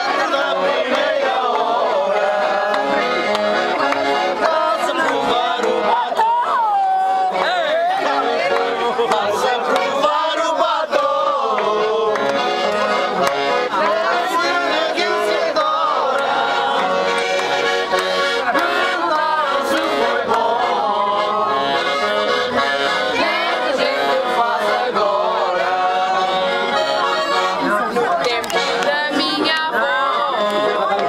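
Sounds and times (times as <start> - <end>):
accordion playing folk tune: 0.0 - 31.0.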